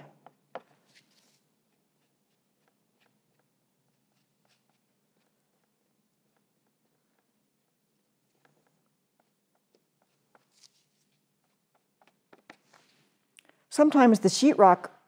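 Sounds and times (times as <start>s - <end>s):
towel dabbing paint: 0.0s - 13.4s.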